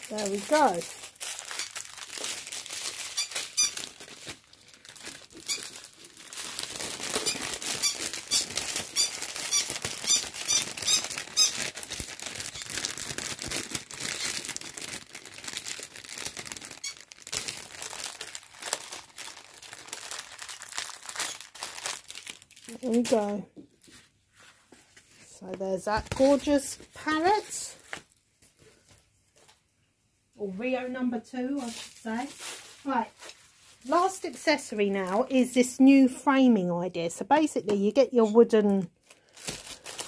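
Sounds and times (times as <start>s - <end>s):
plastic wrapping rustling: 0.0s - 29.7s, 31.5s - 35.8s, 38.3s - 40.0s.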